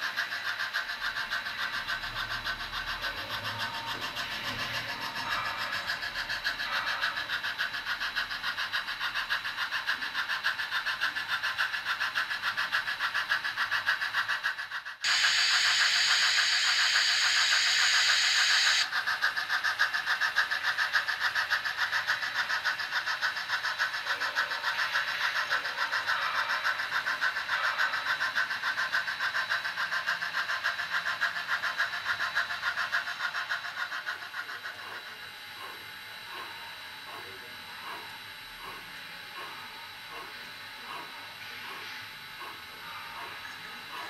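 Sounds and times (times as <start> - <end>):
model steam locomotive chuffing: 0.0 - 44.0.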